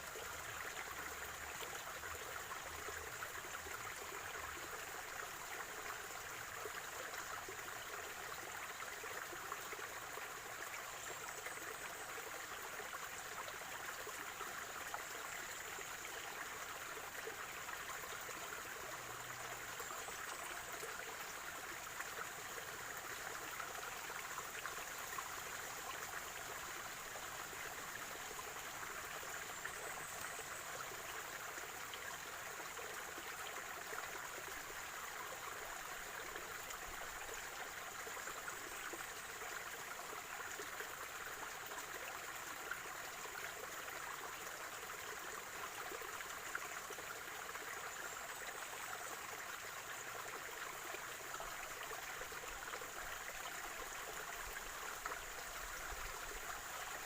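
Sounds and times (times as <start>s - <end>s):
stream flowing and gurgling: 0.0s - 57.0s.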